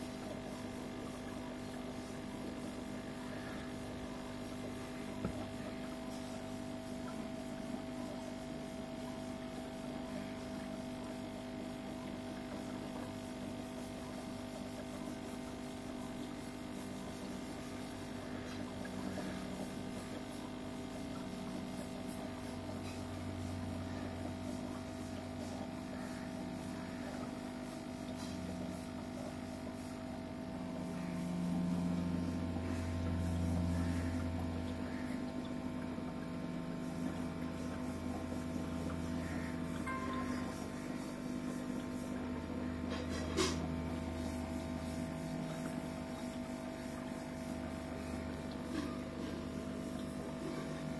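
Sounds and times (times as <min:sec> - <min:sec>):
steady electrical hum: 0:00.0 - 0:50.9.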